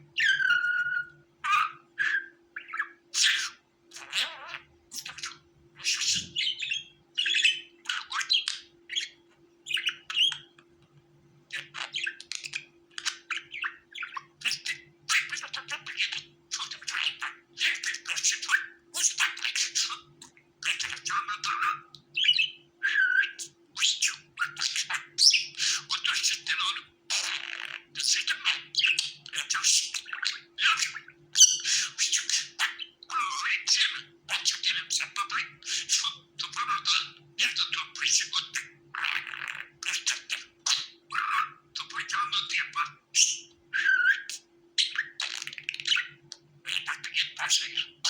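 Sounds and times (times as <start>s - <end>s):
budgerigar chattering: 0.2s - 10.6s, 11.5s - 48.0s.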